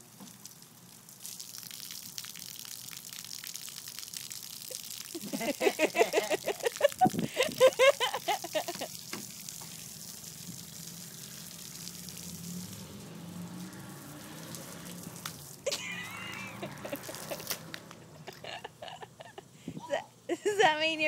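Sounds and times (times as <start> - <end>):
hose water splashing on concrete: 0.0 - 19.4.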